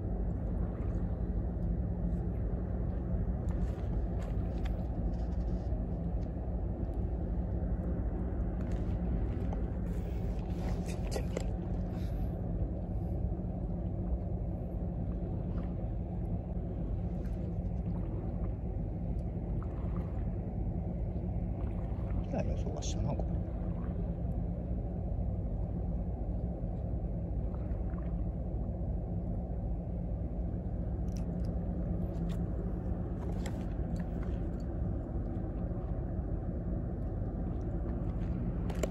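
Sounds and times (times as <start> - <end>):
low mechanical drone: 0.0 - 38.9.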